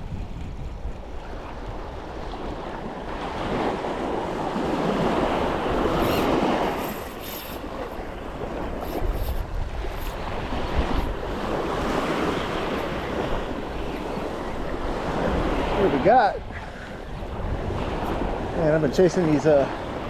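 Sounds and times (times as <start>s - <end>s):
wind rumbling on microphone: 0.0s - 20.0s
wave washing in: 1.2s - 20.0s.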